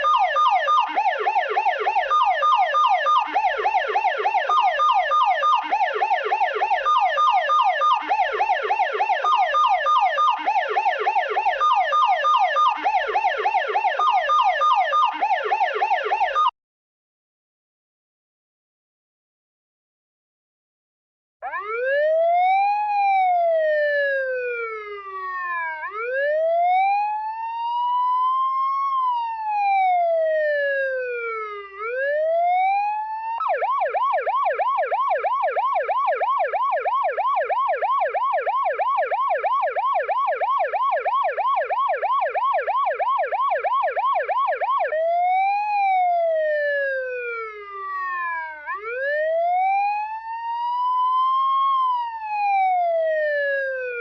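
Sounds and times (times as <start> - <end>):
emergency vehicle siren: 0.0 - 16.6, 21.4 - 54.0.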